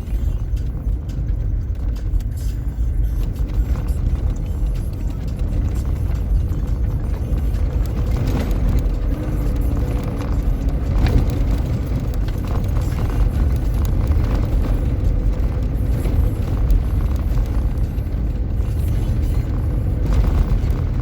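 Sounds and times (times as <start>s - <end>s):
vehicle engine and tyre rumble: 0.0s - 21.0s.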